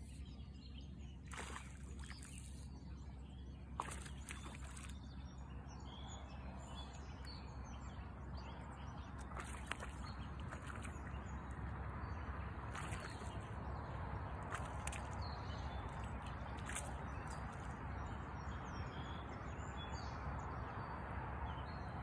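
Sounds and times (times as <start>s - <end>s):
birds chirping: 0.0s - 22.0s
low outdoor rumble: 0.0s - 22.0s.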